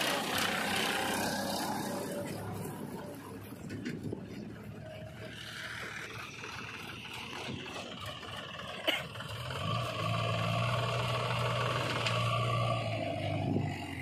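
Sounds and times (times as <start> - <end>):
tractor diesel engine: 0.0 - 14.0.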